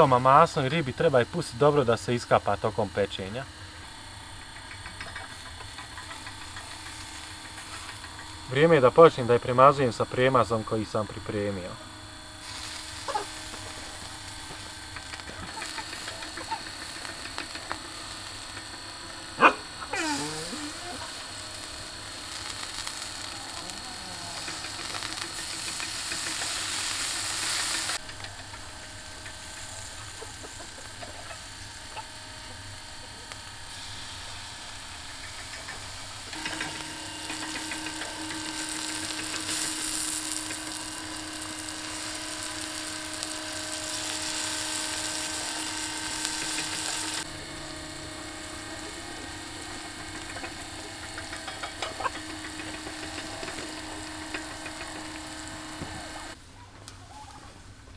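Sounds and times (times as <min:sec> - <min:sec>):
fat sizzling on hot coals: 0:00.0 - 0:56.4
steady low hum: 0:00.0 - 0:56.4.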